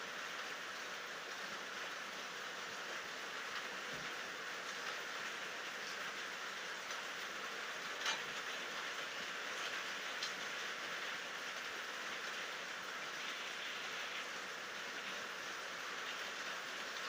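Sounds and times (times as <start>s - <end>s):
steady rainfall hiss: 0.0s - 17.0s.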